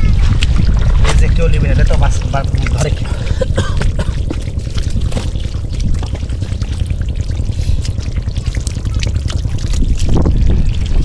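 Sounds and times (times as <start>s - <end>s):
steady low rumble: 0.0s - 11.0s
water splashing and trickling: 0.0s - 11.0s
water dripping: 1.8s - 11.0s.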